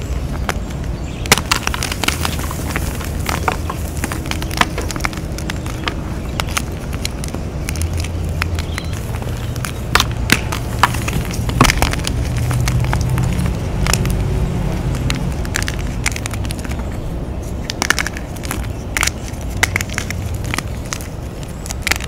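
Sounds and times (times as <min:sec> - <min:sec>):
low rumble: 0:00.0 - 0:21.7
chalk cracking and crumbling: 0:00.0 - 0:22.0.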